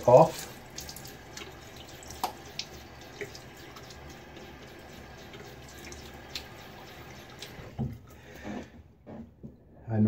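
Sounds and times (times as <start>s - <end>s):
water splashing and dripping: 0.0s - 8.4s
sink tap running: 0.0s - 8.6s.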